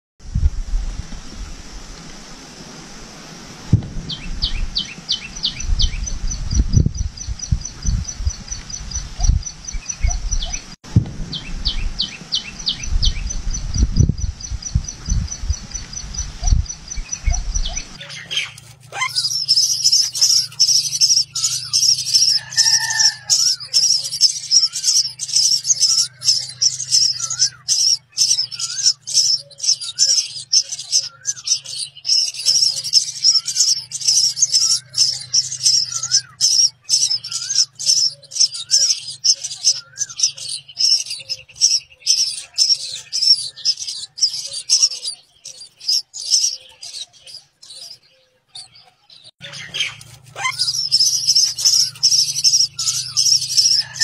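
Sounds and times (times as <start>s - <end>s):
nestlings chirping: 4.1s - 10.8s, 11.4s - 54.0s.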